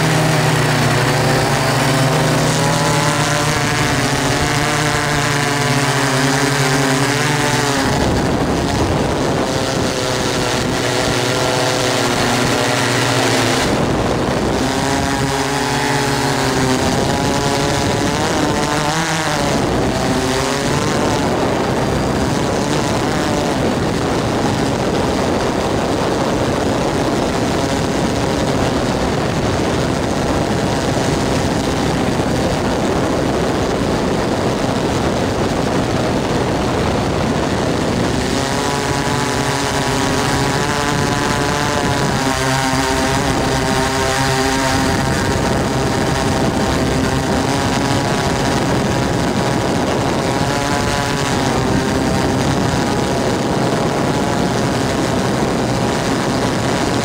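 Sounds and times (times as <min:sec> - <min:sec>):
drone motors whirring: 0:00.0 - 0:57.0
gusty wind noise: 0:00.0 - 0:57.0.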